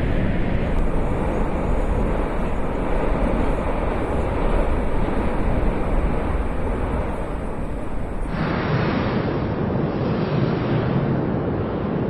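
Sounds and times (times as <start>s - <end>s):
volcano eruption rumble: 0.0s - 12.0s.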